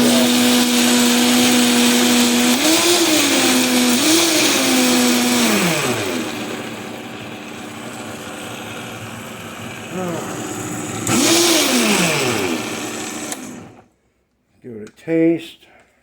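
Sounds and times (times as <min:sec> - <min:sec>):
food blender running: 0:00.0 - 0:13.8.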